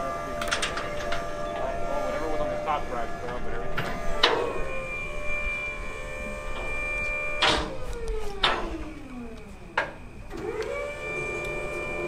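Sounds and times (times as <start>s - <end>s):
hydraulic pump motor whining: 0.0s - 12.0s.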